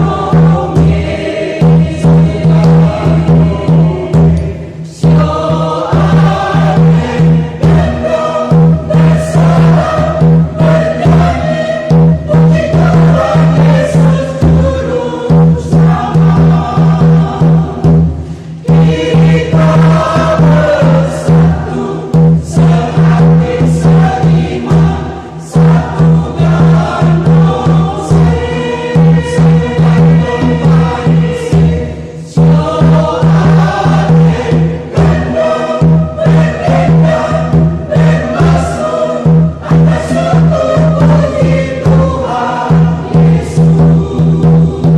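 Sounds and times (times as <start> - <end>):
choir singing a hymn: 0.0 - 44.9
hand drum beat: 0.0 - 44.9.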